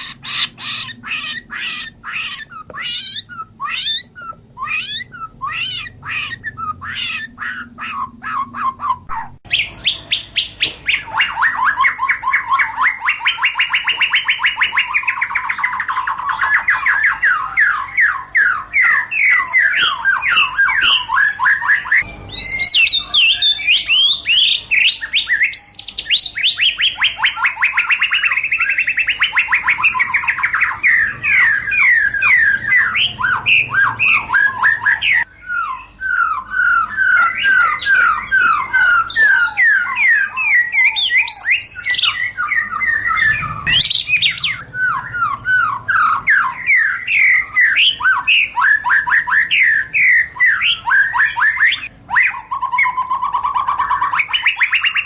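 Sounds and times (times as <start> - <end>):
songbird singing whistled phrases: 0.0 - 55.0.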